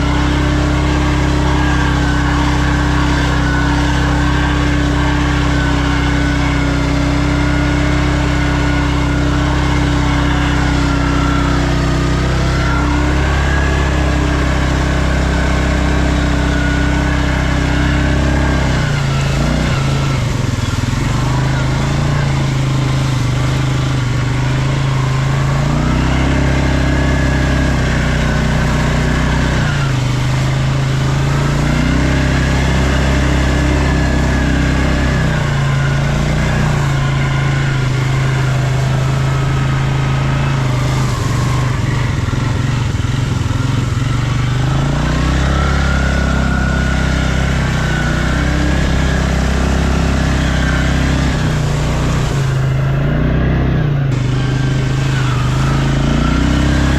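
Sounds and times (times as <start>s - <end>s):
atv engine revving: 0.0s - 56.9s.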